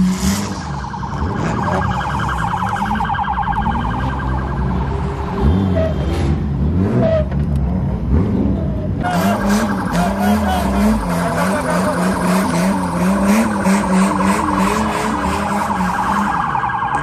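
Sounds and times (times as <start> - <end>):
electronic siren warbling: 0.0 - 6.0, 9.0 - 17.0
car engines running and revving: 0.0 - 17.0.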